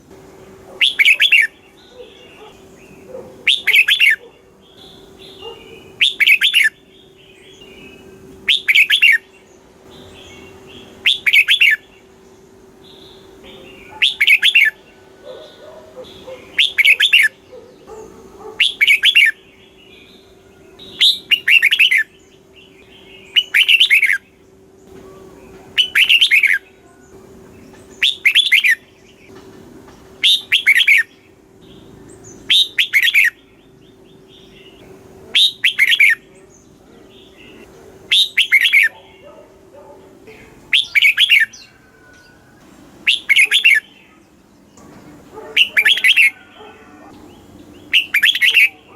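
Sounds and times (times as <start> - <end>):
bulbul singing: 0.0 - 48.9.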